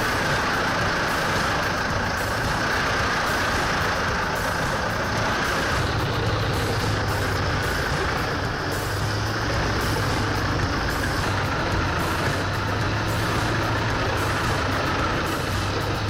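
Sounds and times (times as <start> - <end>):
continuous hiss: 0.0 - 16.0
heavy machinery engine humming: 0.0 - 16.0.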